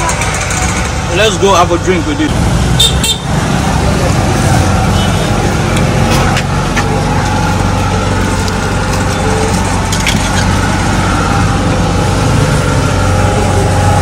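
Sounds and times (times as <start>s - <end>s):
engine idling drone: 0.0s - 14.0s.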